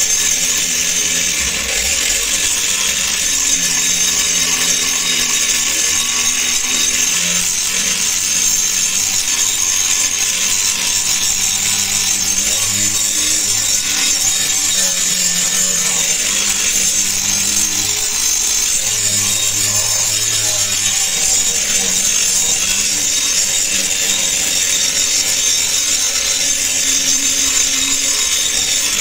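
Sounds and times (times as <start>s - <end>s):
angle grinder grinding metal: 0.0s - 29.0s.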